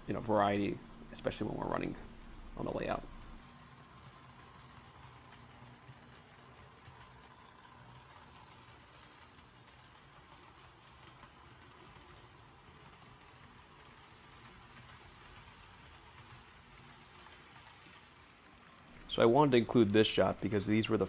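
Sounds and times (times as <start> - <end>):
model train motor hum: 1.3 - 21.0
wheels clicking on track: 2.6 - 21.0.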